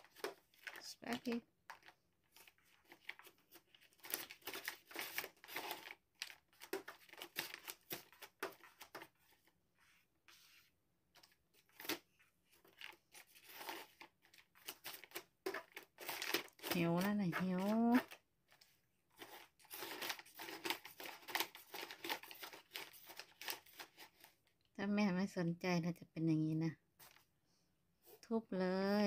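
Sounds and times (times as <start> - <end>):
paper crinkling and rustling: 0.0 - 24.4, 27.0 - 27.3.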